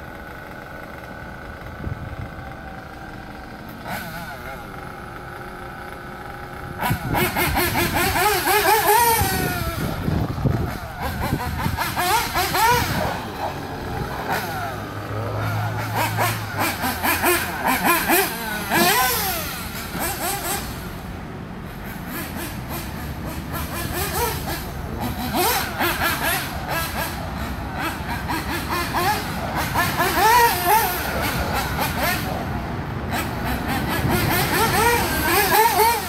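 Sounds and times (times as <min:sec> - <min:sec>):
small glow engine revving: 0:00.0 - 0:21.1, 0:21.8 - 0:36.0.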